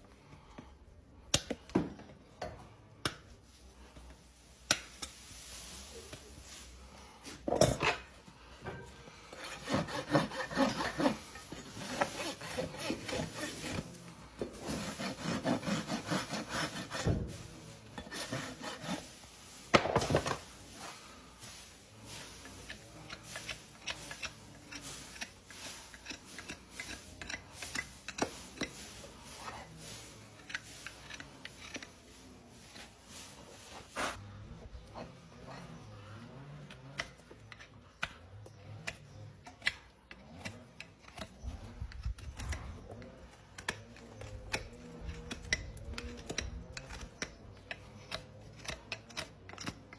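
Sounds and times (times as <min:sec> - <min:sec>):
rasp scraping horse hoof: 0:04.8 - 0:49.9.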